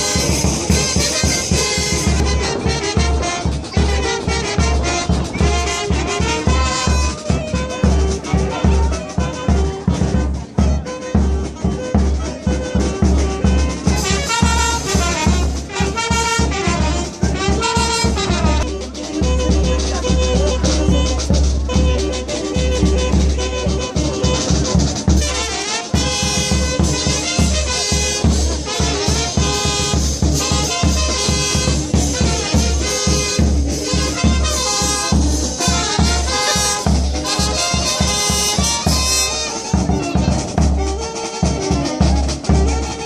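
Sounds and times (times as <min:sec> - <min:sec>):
brass instruments playing: 0:00.0 - 0:43.0.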